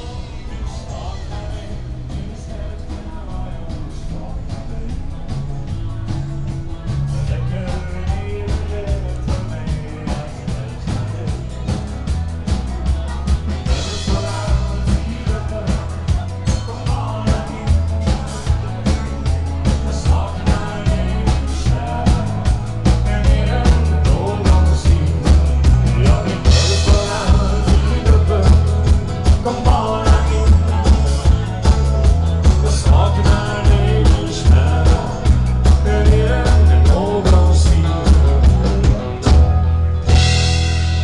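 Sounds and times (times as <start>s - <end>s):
person singing: 0.0s - 39.5s
live rock band playing: 0.0s - 41.0s.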